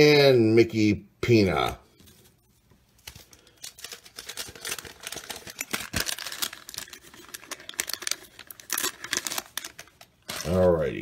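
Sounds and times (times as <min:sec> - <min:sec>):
cards crackling and rustling: 0:02.0 - 0:11.0.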